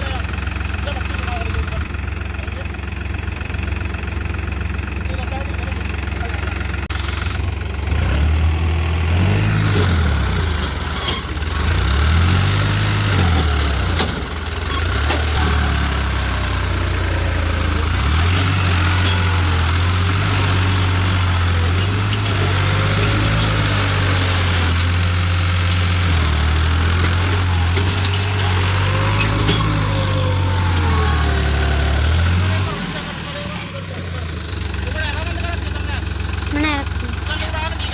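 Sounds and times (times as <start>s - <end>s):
tractor diesel engine revving: 0.0s - 37.9s.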